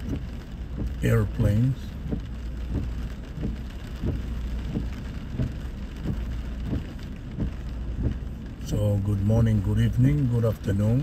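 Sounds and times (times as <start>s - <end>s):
heavy rain on a car: 0.0s - 11.0s
steady low rumble: 0.0s - 11.0s.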